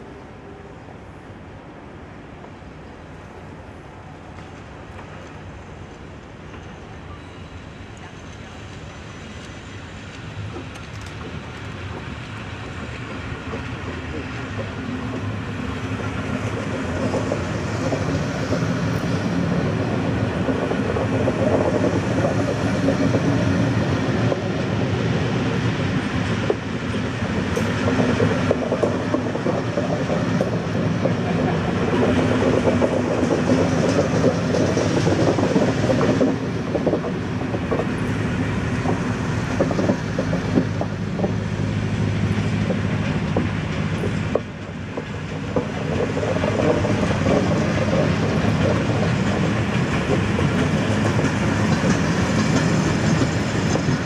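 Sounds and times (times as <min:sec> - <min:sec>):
train wheels rumbling on rail: 0:00.0 - 0:54.0
wheels clattering over rail joints: 0:10.4 - 0:54.0.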